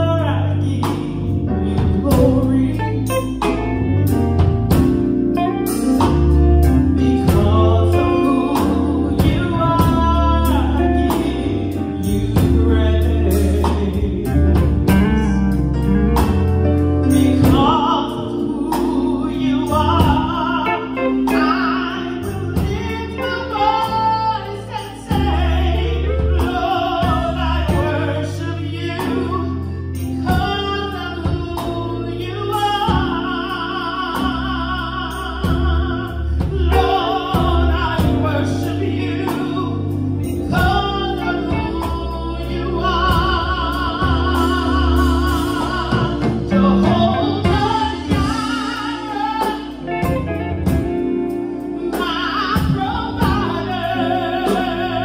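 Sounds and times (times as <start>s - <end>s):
instrumental accompaniment with beat: 0.0s - 55.0s
woman singing gospel: 0.0s - 55.0s.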